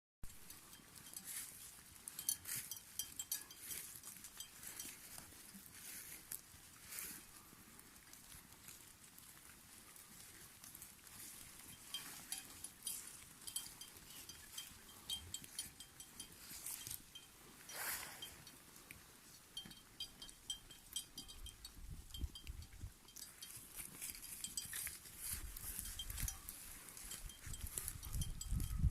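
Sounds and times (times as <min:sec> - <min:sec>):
sheep bells clinking: 0:00.3 - 0:06.2, 0:09.4 - 0:28.9.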